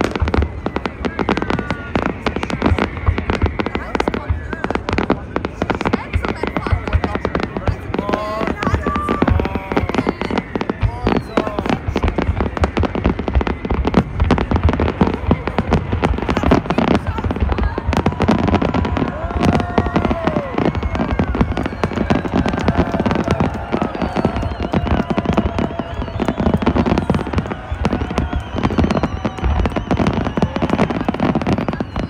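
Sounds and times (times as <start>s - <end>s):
crowd voices: 0.0s - 32.0s
fireworks and firecrackers banging: 0.0s - 32.0s.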